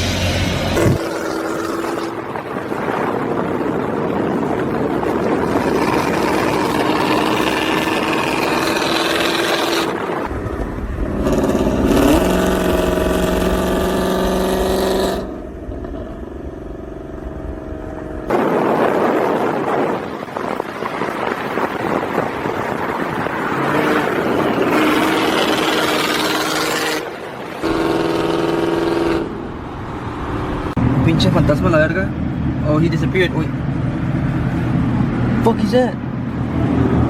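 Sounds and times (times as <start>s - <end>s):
car exhaust revving: 0.0s - 20.6s, 21.5s - 31.0s.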